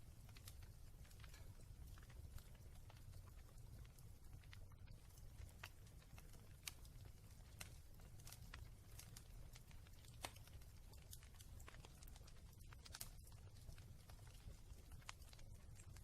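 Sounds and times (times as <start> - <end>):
low fire rumble: 0.0 - 16.0
sharp snaps of fire: 0.0 - 16.0
wood fire crackling: 0.0 - 16.0.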